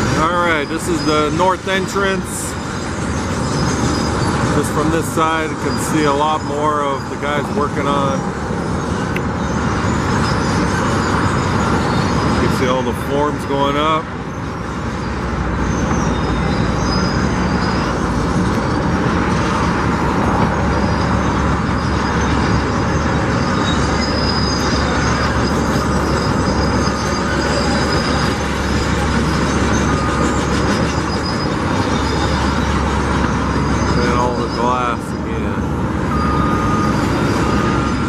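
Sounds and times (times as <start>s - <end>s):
loud mechanical rumble: 0.0s - 38.0s
faint high-pitched squealing: 0.1s - 19.7s, 20.6s - 38.0s.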